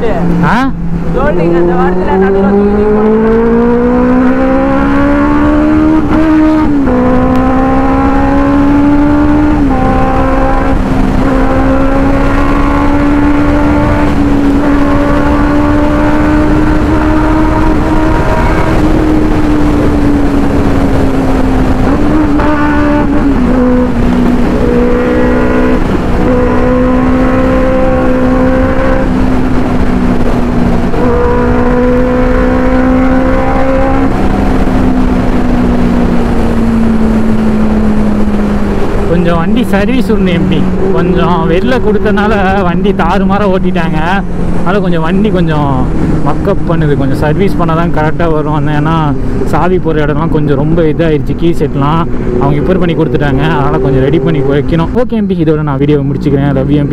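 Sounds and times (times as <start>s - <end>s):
motorcycle engine running: 0.0s - 55.7s
road and wind noise: 0.0s - 56.9s.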